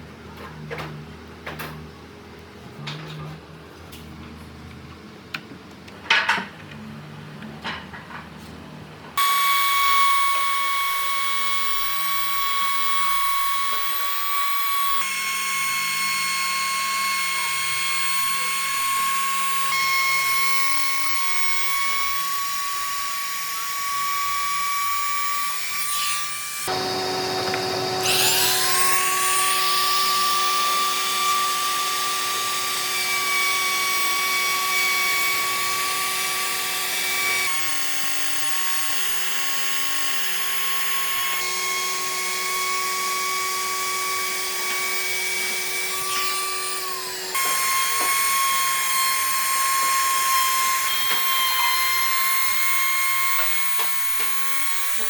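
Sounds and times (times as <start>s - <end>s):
power tool whining: 9.2s - 55.0s.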